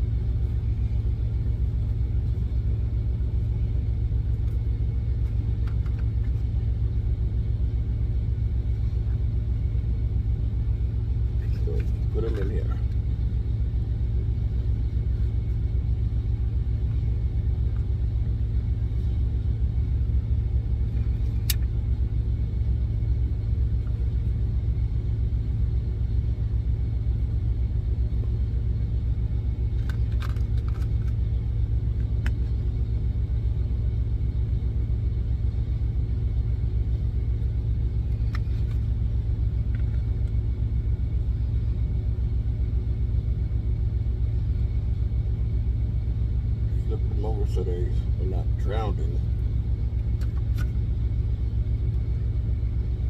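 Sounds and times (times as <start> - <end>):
truck engine idling: 0.0 - 53.0.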